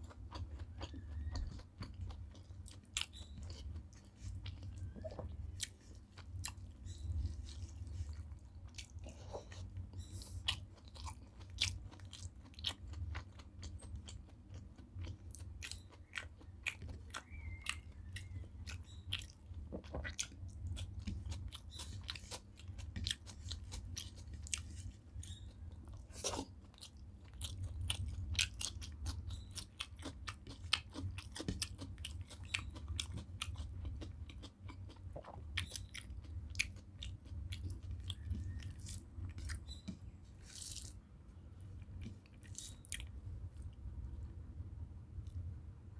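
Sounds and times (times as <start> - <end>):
close chewing: 0.0 - 41.0, 41.6 - 43.8
steady low hum: 0.0 - 45.9.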